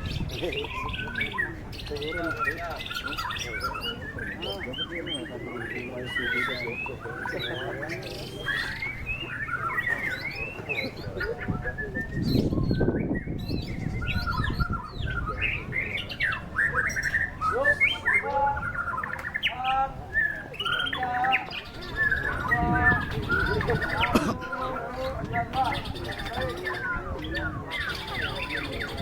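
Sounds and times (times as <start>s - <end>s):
bird singing whistled notes and trills: 0.0s - 29.0s.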